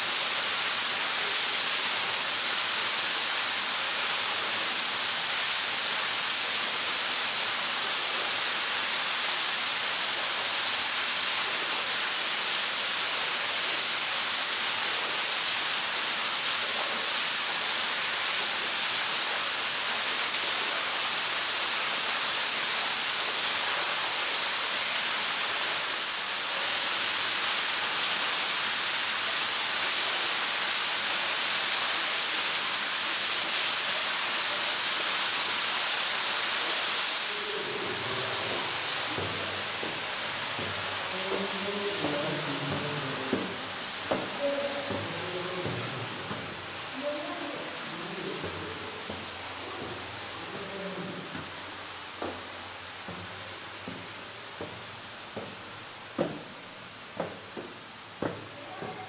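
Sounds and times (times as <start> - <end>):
flowing cave water: 0.0 - 59.0.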